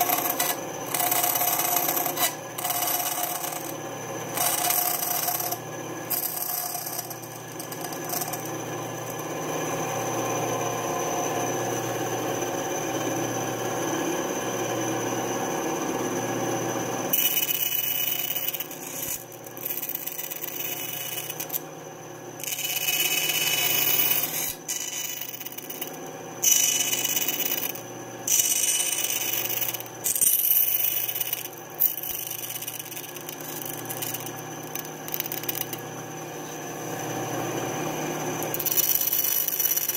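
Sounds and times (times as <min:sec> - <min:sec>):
band saw cutting plywood: 0:00.0 - 0:10.0, 0:17.1 - 0:21.6, 0:22.4 - 0:39.9.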